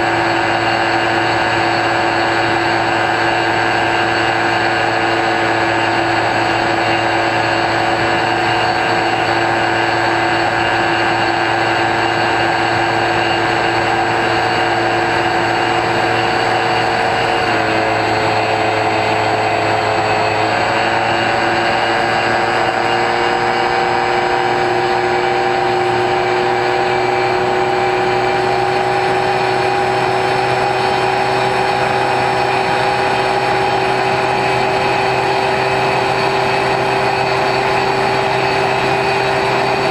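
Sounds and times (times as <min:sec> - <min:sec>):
electric motor and propeller running: 0:00.0 - 0:39.9.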